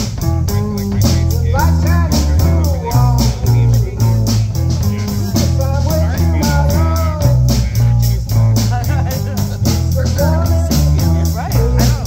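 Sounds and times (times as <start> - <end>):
bass guitar line: 0.0 - 12.0.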